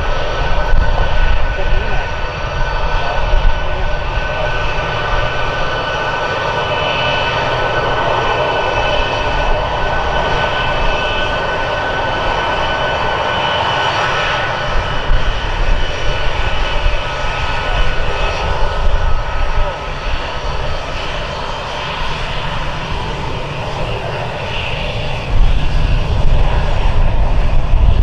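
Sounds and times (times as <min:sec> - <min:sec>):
jet engines whining at taxi: 0:00.0 - 0:28.0.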